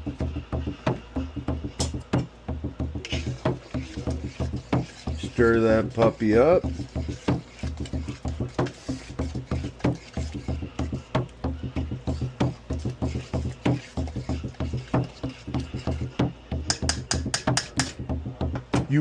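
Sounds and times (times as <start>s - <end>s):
utensil stirring in a pot: 0.0s - 19.0s.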